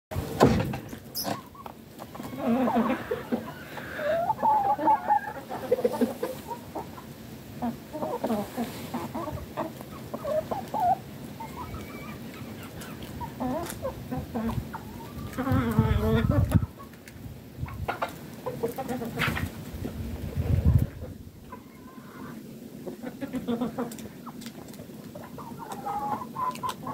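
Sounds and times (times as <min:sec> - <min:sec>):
chickens clucking: 0:00.1 - 0:26.9.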